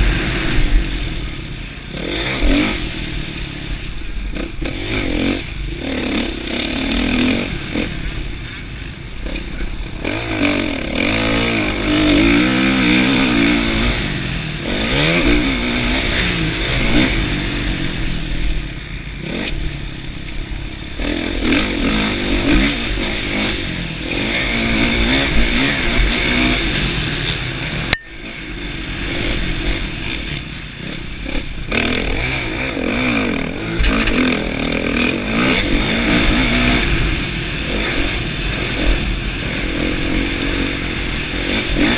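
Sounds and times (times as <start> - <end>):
motocross engine revving: 0.0 - 41.9.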